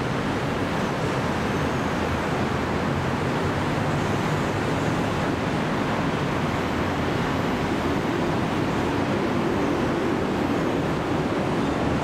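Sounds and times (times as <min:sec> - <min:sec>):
road traffic rush: 0:00.0 - 0:12.0.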